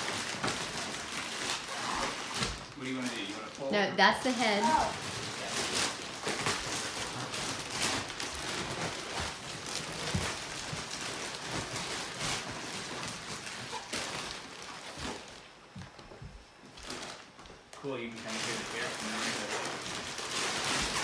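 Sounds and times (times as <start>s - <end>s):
plastic wrapping crinkling: 0.0s - 21.0s.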